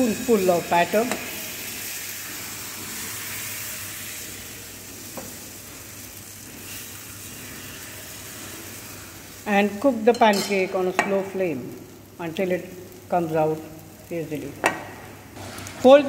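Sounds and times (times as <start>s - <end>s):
batter sizzling in a frying pan: 0.0s - 16.0s.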